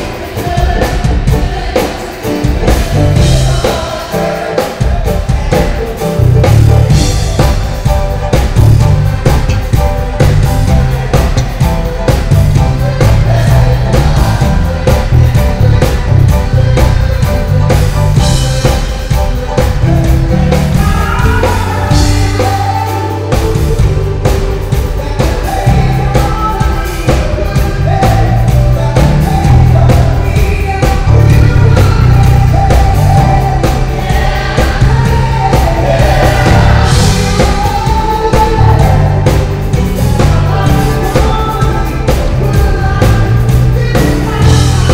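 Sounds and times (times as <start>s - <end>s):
drum kit: 0.0s - 44.9s
gospel band playing: 0.0s - 44.9s
group singing: 0.0s - 44.9s
electric bass: 2.6s - 3.8s, 4.8s - 44.9s.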